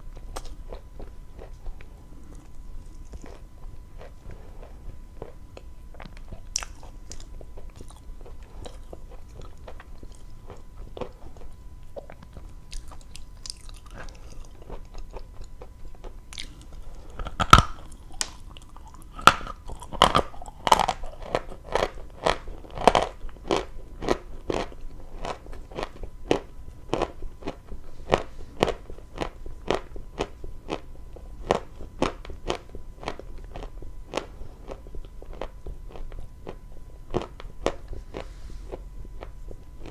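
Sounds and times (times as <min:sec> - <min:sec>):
chalk being chewed: 0:00.2 - 0:39.9.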